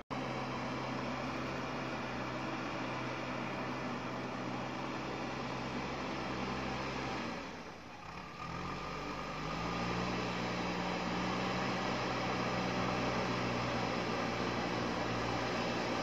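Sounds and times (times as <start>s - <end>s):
diesel engine revving: 0.1s - 16.0s.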